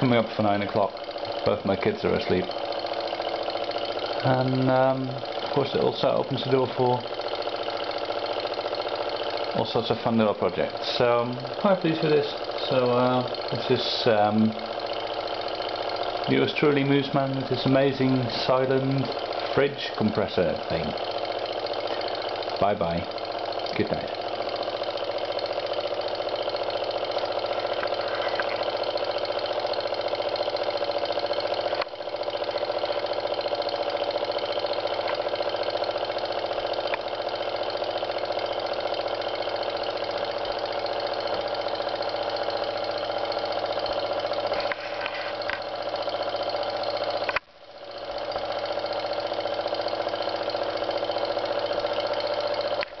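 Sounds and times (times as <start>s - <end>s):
compressor humming: 0.0s - 53.0s
toy steam engine running: 0.0s - 53.0s.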